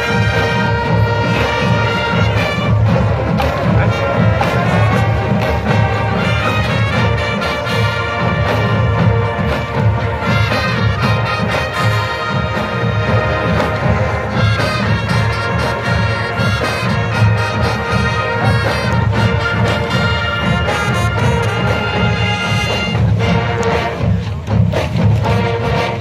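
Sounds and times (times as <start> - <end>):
brass band playing loudly: 0.0 - 26.0.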